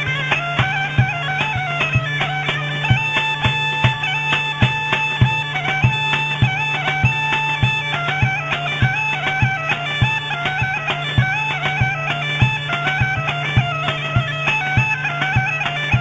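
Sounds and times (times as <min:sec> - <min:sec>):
bagpipe folk melody: 0:00.0 - 0:16.0
large drum beating: 0:00.3 - 0:16.0.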